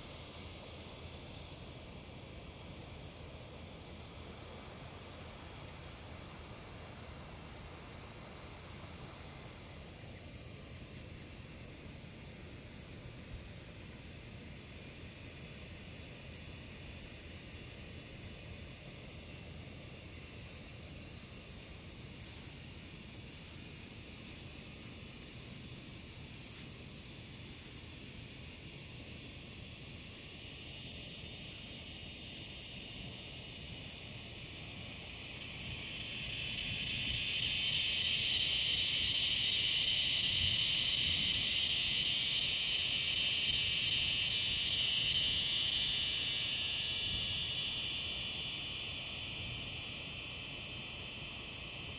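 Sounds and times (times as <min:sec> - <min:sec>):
insect trill: 0:00.0 - 0:51.9.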